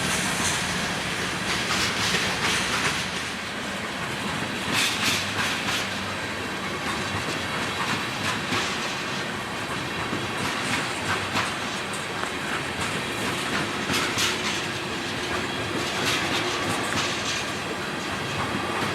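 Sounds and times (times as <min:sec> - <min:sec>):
railroad cars rumbling: 0:00.0 - 0:18.9
wheels clacking over rail joints: 0:00.0 - 0:18.9.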